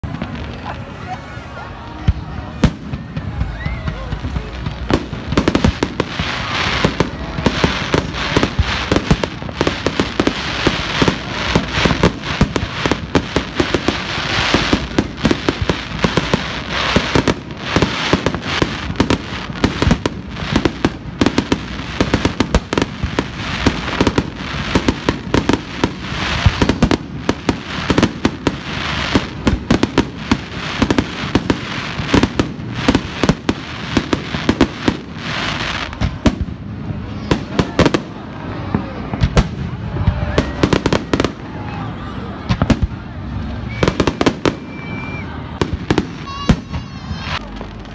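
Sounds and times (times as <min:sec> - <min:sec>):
fireworks bangs: 0:00.0 - 0:47.9
fireworks crackle: 0:00.0 - 0:47.9.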